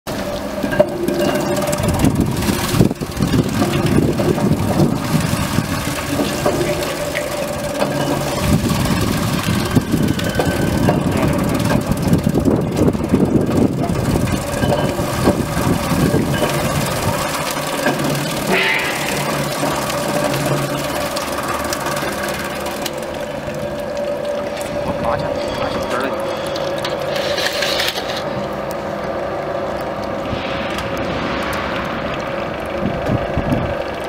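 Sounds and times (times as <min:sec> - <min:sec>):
potato cutting machine clattering: 0:00.7 - 0:28.2.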